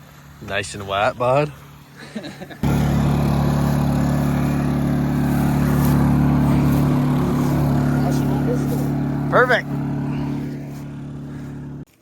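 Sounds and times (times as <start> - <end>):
small gas engine running: 1.6 - 12.0.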